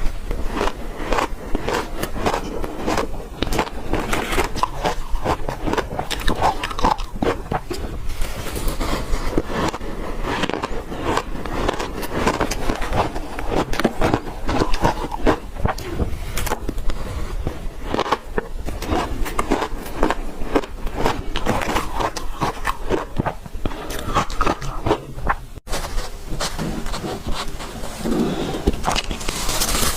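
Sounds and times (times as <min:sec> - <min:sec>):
ice being chewed: 0:00.3 - 0:25.4, 0:26.9 - 0:29.9.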